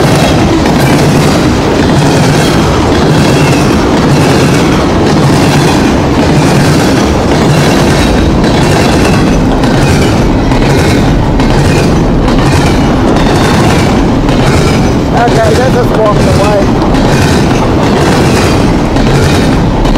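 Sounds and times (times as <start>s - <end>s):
clickety-clack of rails: 0.0s - 19.9s
train wheels rumbling on rails: 0.0s - 19.9s.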